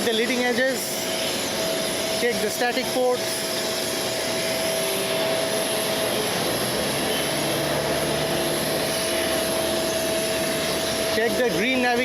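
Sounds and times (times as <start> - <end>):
jet turbine whine: 0.0 - 12.0.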